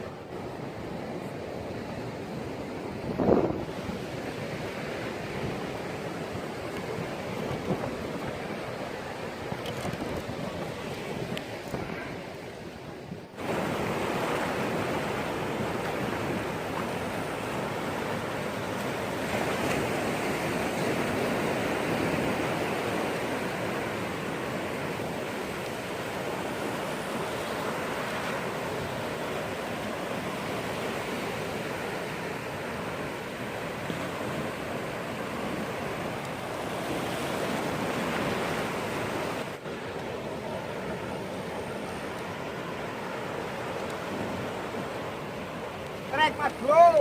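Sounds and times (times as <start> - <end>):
waves breaking on shore: 0.0 - 47.0.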